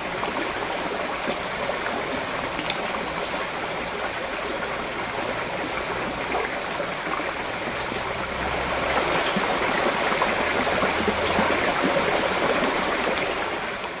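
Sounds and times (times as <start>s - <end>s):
stream babbling over stones: 0.0s - 14.0s.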